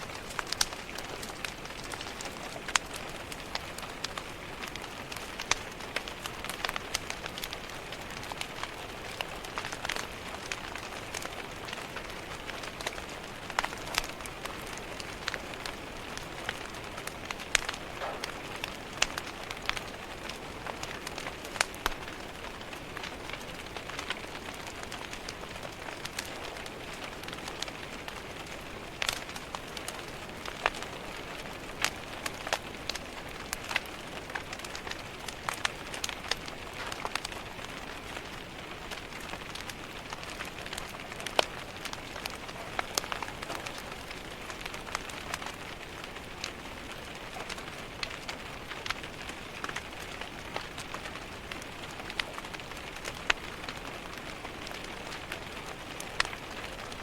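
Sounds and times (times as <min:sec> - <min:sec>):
rain against a window: 0:00.0 - 0:57.0
wood fire crackling: 0:00.0 - 0:57.0.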